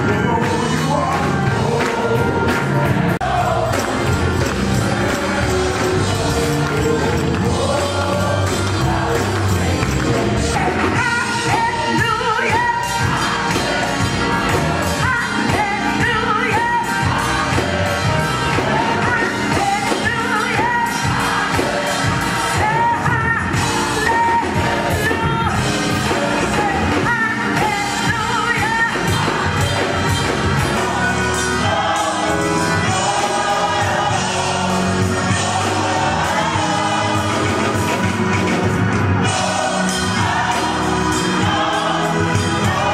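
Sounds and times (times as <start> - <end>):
gospel choir singing: 0.0 - 42.9
instrumental accompaniment: 0.0 - 42.9.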